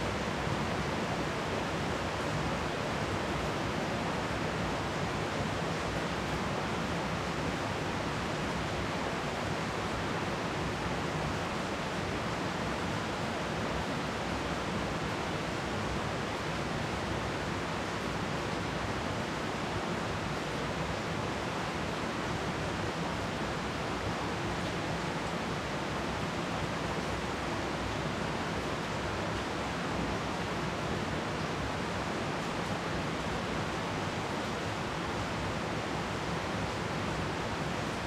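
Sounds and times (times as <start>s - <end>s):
rain falling on trees: 0.0s - 38.0s.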